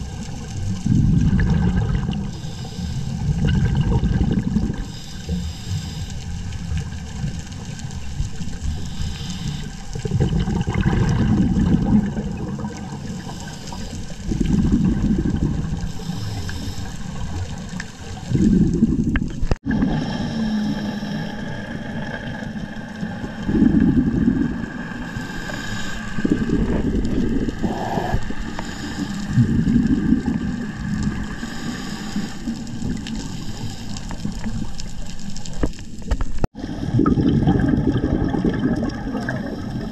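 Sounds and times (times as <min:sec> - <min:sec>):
exhaled bubbles gurgling: 0:00.0 - 0:39.9
underwater low rumble: 0:00.0 - 0:39.9.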